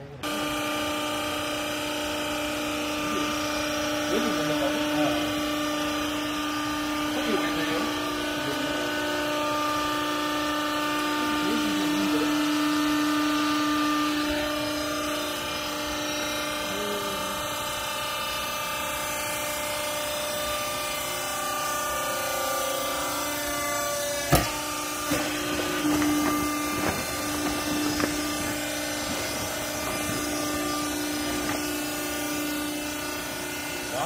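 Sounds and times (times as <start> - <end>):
hydraulic baler motor humming: 0.0 - 34.0.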